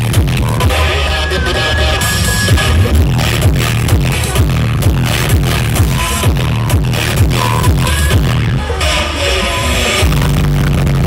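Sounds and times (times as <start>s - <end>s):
heavy bass kick sliding down: 0.0s - 11.0s
loud electronic dance music: 0.0s - 11.0s.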